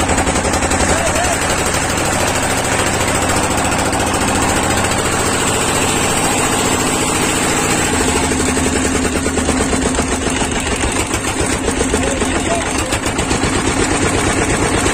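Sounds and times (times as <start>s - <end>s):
motorboat engine chugging: 0.0s - 14.9s.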